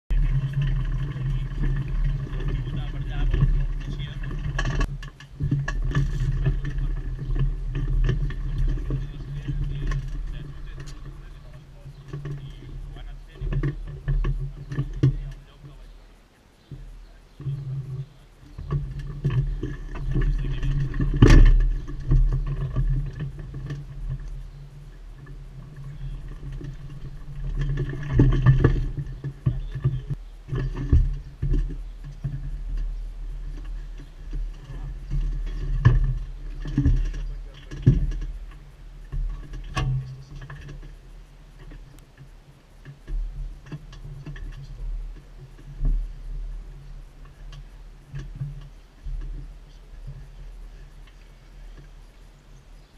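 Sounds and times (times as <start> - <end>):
engine idling with low hum: 0.0 - 52.9.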